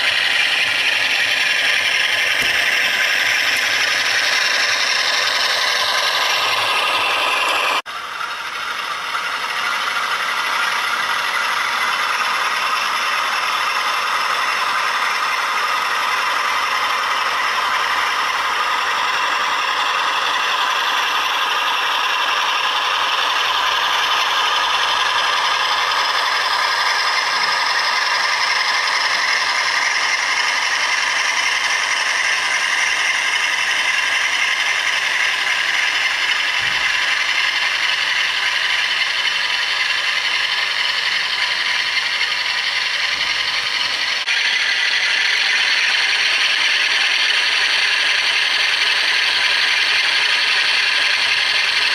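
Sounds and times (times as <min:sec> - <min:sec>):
diesel engine sound from speaker: 0:00.0 - 0:51.9
model train motor rattle: 0:00.0 - 0:51.9.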